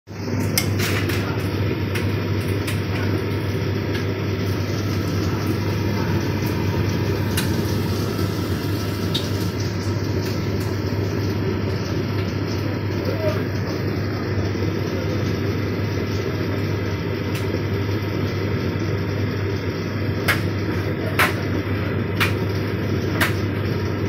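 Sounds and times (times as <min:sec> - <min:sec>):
tumble dryer motor hum: 0:00.1 - 0:24.0.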